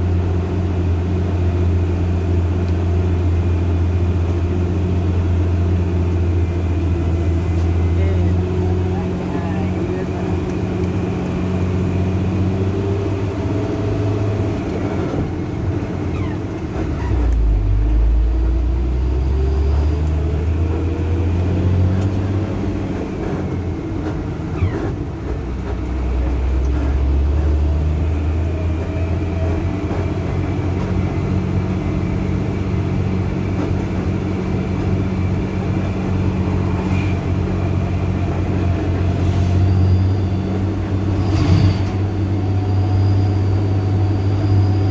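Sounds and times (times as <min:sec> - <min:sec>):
truck engine under load: 0:00.0 - 0:44.9.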